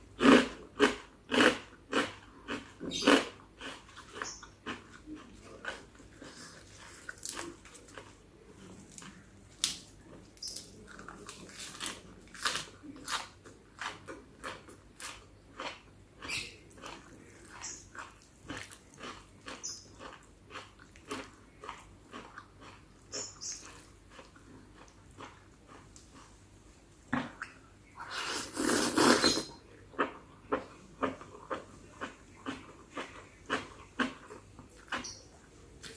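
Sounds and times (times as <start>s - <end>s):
chewing and crunching: 0.2s - 26.6s, 29.7s - 35.9s.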